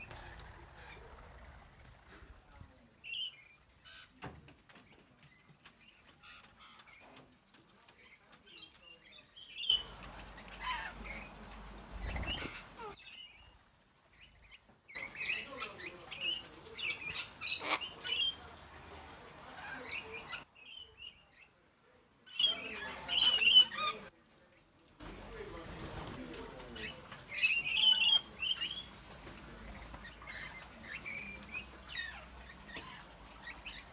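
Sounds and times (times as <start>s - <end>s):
birds chirping and squawking: 0.0s - 24.1s, 25.0s - 33.9s.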